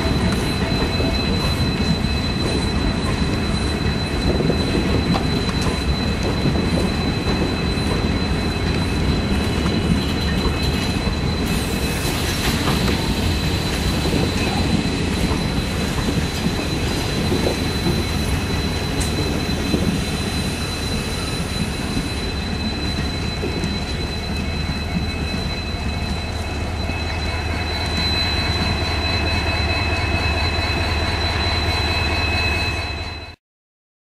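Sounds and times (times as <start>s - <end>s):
train wheels rumbling on track: 0.0s - 33.4s.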